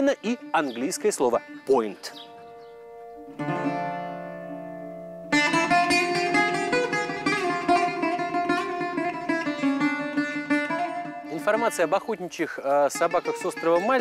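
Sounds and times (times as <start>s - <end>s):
plucked guitar-like music: 0.0s - 14.0s.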